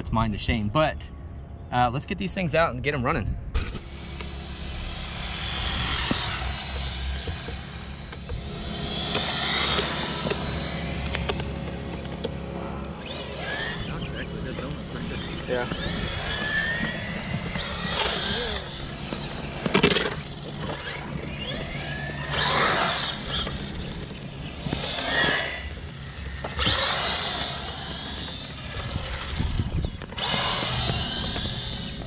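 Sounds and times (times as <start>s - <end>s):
rc car electric motors whining: 3.5s - 32.0s.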